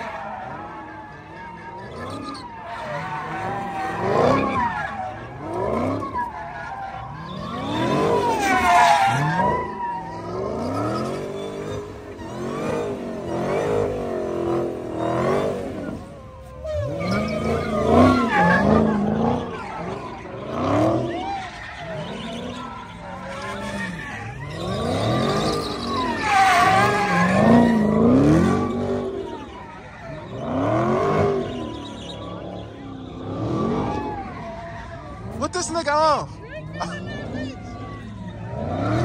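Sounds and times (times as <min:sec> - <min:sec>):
car engine revving: 0:00.0 - 0:39.0
tyres squealing: 0:00.0 - 0:39.0.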